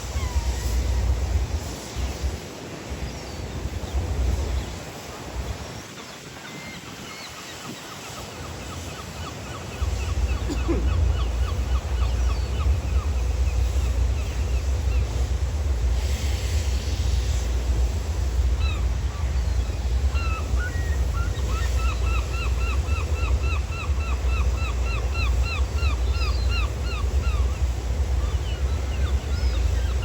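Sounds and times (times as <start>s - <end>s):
gulls calling: 0.0s - 16.0s, 16.7s - 30.0s
wind and waves rumble: 0.0s - 30.0s.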